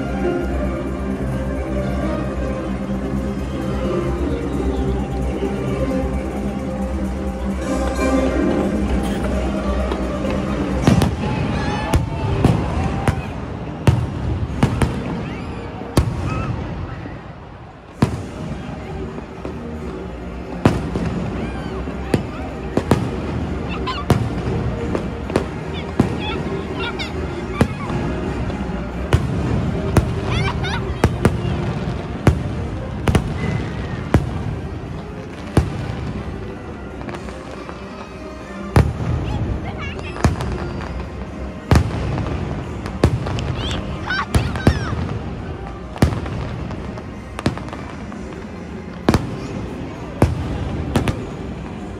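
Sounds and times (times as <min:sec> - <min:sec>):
fireworks bangs: 0:08.6 - 0:51.9.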